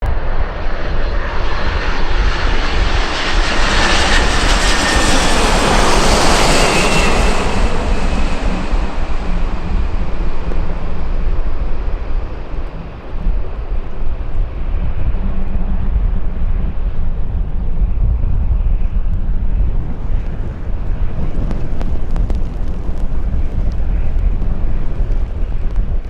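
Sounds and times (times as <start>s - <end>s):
airliner engines rumbling: 0.0s - 26.0s
faint high engine whine: 0.1s - 26.0s.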